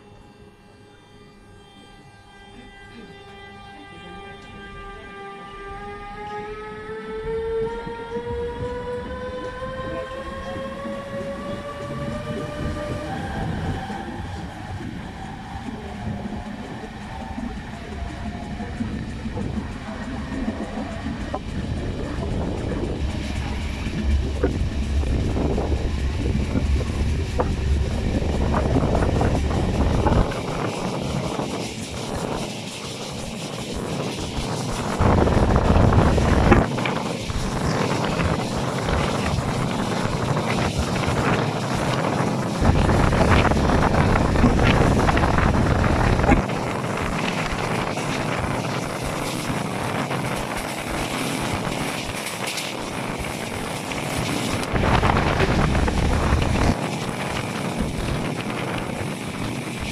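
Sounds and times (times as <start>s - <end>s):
passenger train rushing: 0.0s - 59.9s
wind buffeting microphone: 6.1s - 59.9s.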